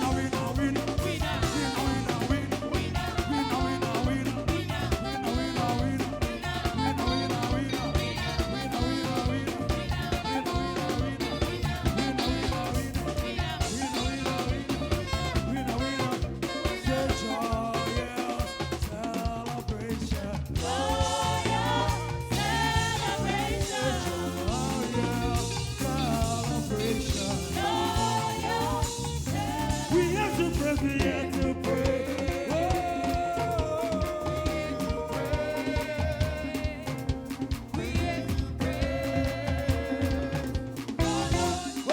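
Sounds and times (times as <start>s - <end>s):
gospel band playing: 0.0s - 41.9s.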